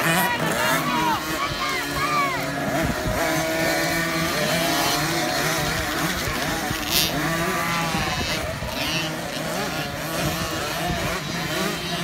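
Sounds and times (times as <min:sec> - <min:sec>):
motocross bikes revving: 0:00.0 - 0:12.0.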